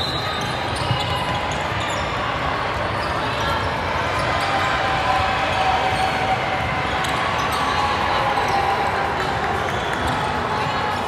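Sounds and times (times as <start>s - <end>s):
voices of players and spectators: 0.0s - 11.0s.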